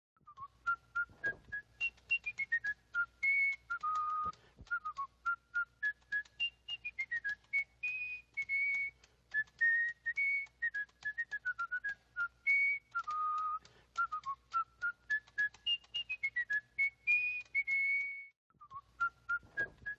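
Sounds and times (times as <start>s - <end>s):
whistled melody: 0.2s - 19.9s
sharp clicks: 0.3s - 19.9s.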